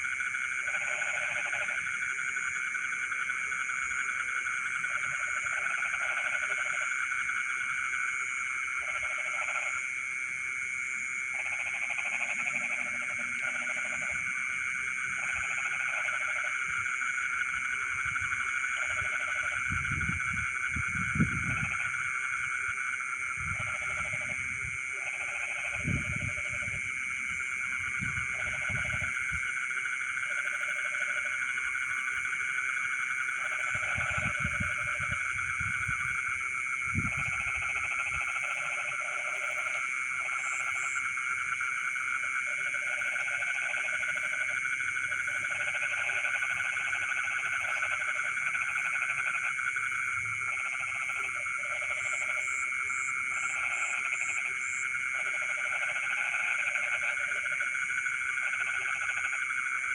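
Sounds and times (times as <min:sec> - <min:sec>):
frogs calling: 0:00.0 - 0:59.9
insect drone: 0:00.0 - 0:59.9.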